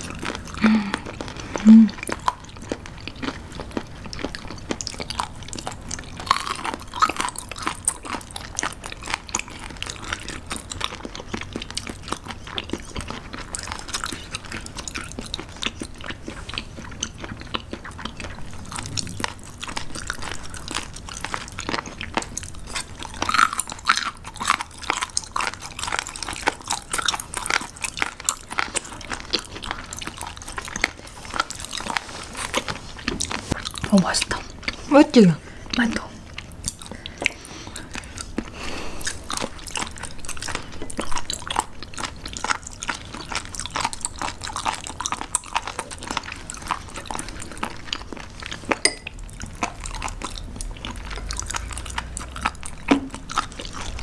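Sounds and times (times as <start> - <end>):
chewing crunchy raw seafood: 0.0 - 54.0.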